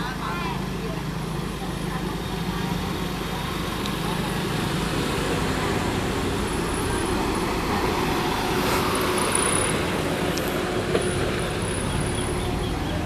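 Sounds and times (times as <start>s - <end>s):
car engines humming: 0.0s - 13.0s
tyres on dirt road: 0.0s - 13.0s.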